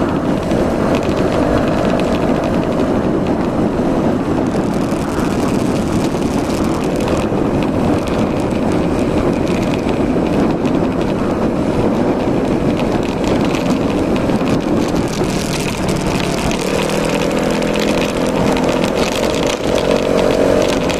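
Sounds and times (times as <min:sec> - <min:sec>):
scooter engine running: 0:00.0 - 0:20.9.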